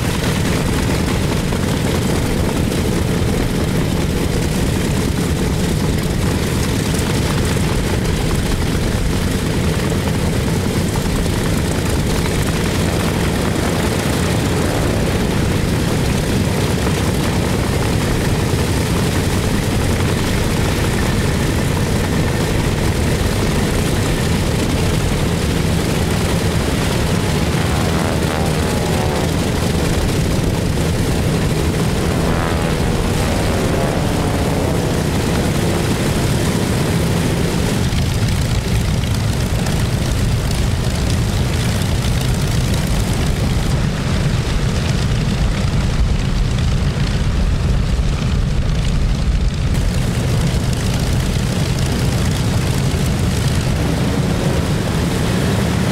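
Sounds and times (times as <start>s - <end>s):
piston aircraft engines rumbling: 0.0s - 55.9s.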